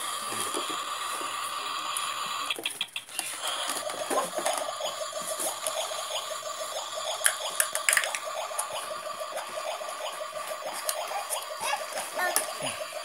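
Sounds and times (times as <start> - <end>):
toy stove electronic hiss: 0.0 - 13.0.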